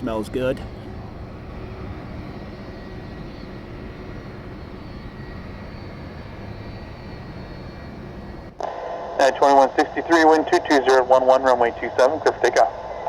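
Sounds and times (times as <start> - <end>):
faint high whine: 0.0 - 13.0
jet engines idling: 0.0 - 13.0.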